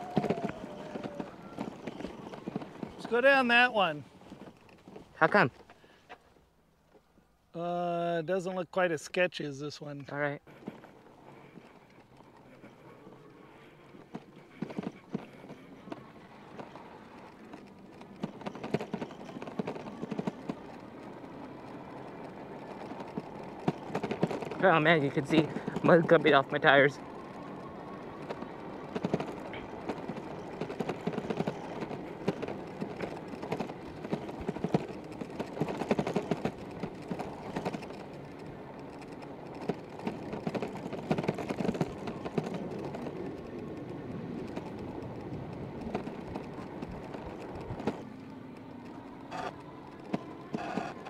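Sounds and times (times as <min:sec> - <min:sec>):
dirt bike rattling over ruts: 0:00.0 - 0:05.6, 0:09.9 - 0:51.0.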